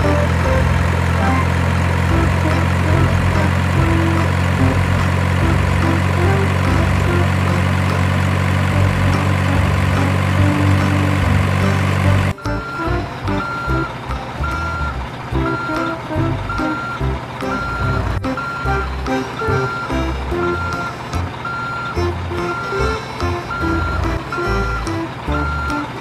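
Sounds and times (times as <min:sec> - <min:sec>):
simulated truck engine idling: 0:00.0 - 0:26.0.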